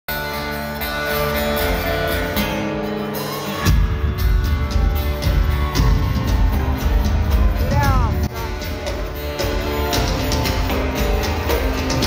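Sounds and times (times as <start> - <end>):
bass: 0.1 - 12.0
drums: 0.1 - 12.0.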